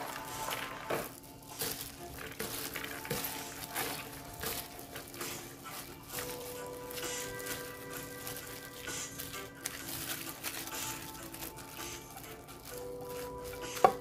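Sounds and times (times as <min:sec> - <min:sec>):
soft background music: 0:00.0 - 0:14.0
vegetables rustling in plastic bowl: 0:00.0 - 0:14.0.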